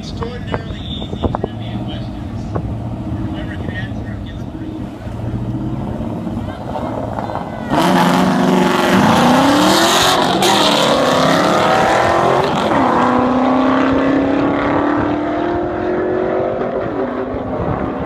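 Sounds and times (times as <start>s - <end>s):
drag racing car engines: 0.0s - 18.0s.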